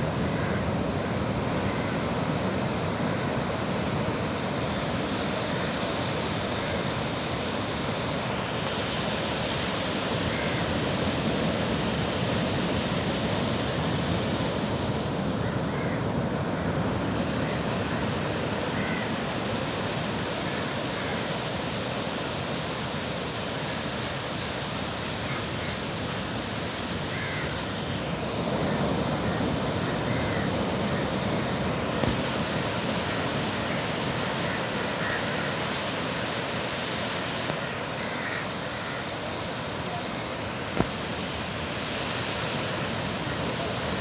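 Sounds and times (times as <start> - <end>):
surf washing onto beach: 0.0 - 44.0.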